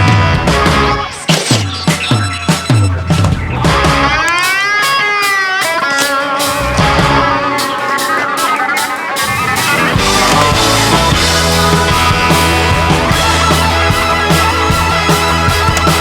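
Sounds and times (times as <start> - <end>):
bass and drum beat: 0.0 - 16.0
electric guitar lead: 0.0 - 16.0.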